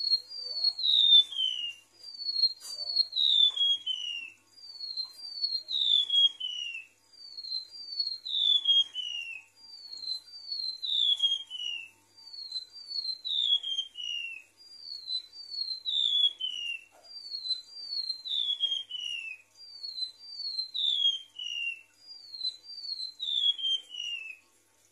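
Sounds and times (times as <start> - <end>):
bird singing high whistled notes: 0.0 - 24.5.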